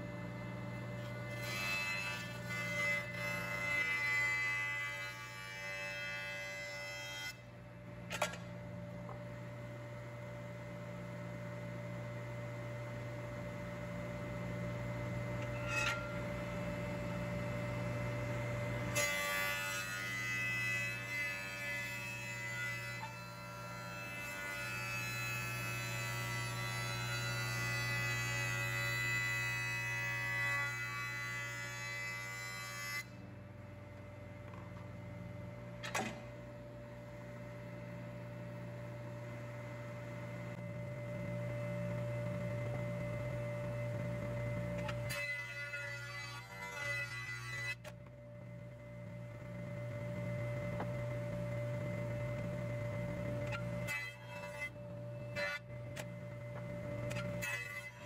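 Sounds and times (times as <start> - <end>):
jointer motor hum and whine: 0.0 - 58.0.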